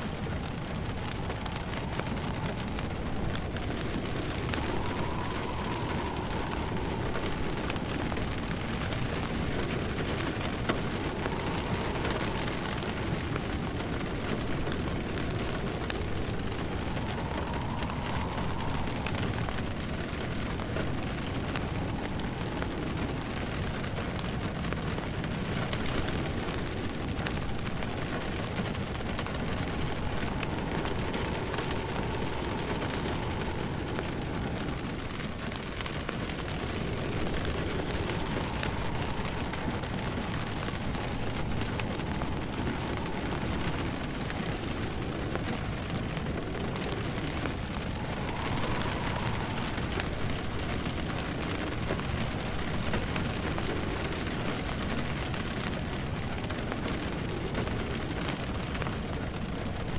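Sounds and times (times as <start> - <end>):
rain pattering: 0.0 - 59.9
wood fire crackling: 0.0 - 59.9.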